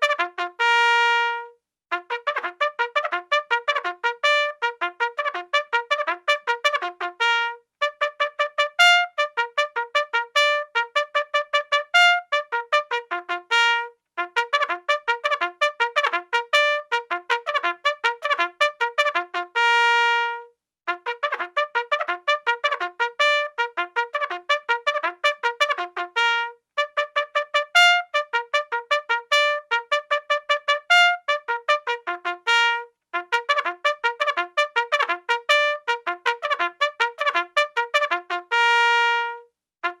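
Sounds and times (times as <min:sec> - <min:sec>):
bugle call: 0:00.0 - 0:40.0.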